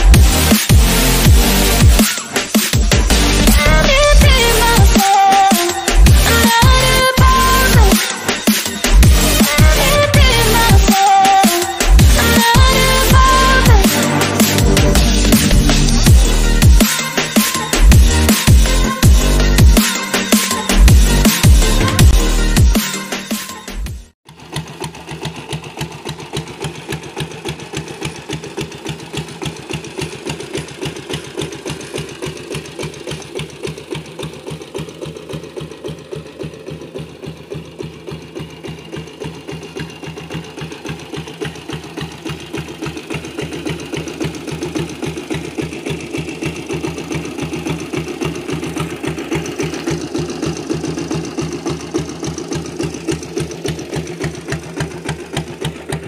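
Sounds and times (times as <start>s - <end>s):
diesel engine idling: 0.0s - 19.8s, 20.5s - 22.6s, 24.3s - 56.0s.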